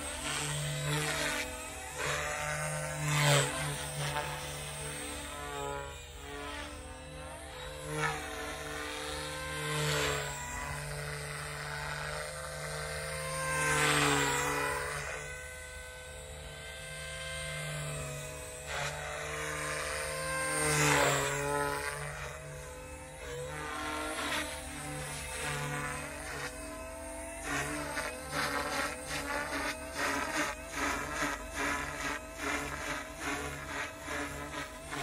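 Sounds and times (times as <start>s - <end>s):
rc helicopter motor whine: 0.0s - 35.0s.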